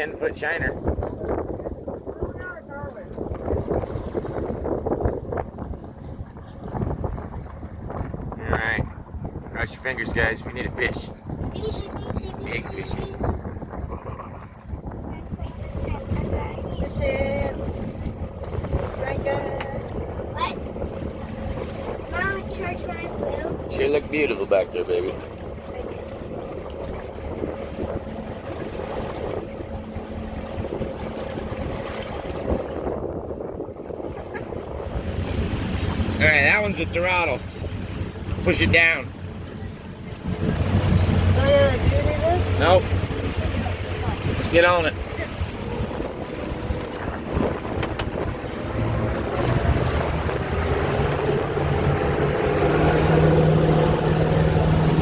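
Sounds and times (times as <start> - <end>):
motorboat engine drone: 0.0 - 55.0
water slapping boat hull: 0.0 - 55.0
wind buffeting microphone: 0.0 - 55.0.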